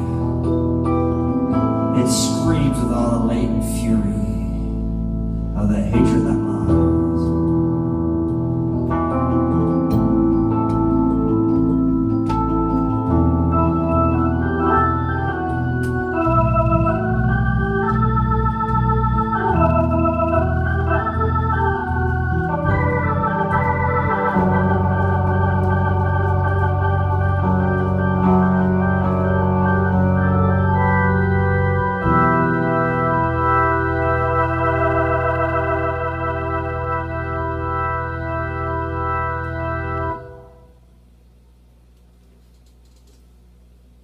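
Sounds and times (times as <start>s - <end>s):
steady low bass: 0.0s - 42.0s
organ chords: 0.0s - 44.0s.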